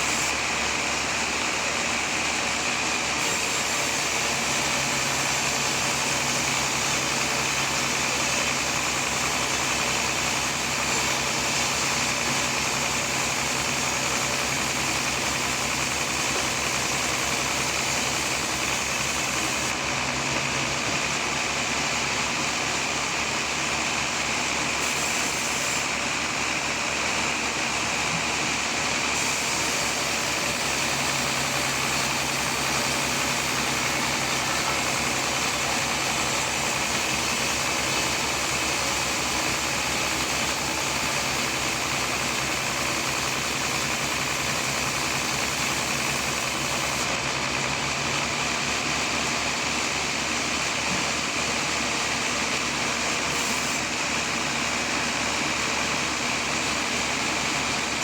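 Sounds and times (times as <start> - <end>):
sawmill engine and saw noise: 0.0 - 58.0.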